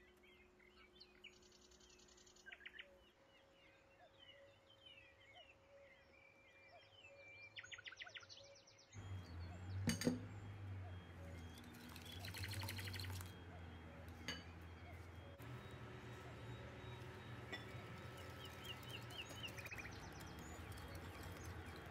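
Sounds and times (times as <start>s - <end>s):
birds chirping: 0.0s - 21.9s
bird trill: 0.2s - 21.9s.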